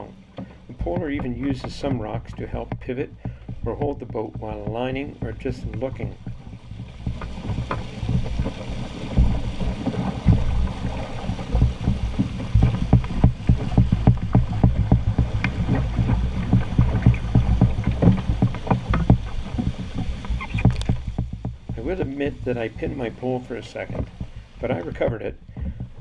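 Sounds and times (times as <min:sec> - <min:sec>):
rushing whitewater roar: 0:00.0 - 0:26.0
water splashes and knocks: 0:00.0 - 0:26.0.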